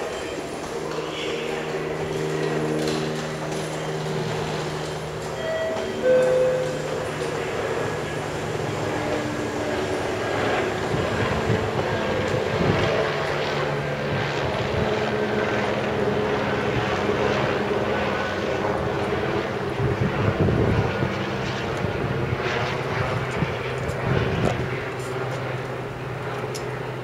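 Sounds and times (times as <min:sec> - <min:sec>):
aircraft engine drone: 0:00.0 - 0:27.0.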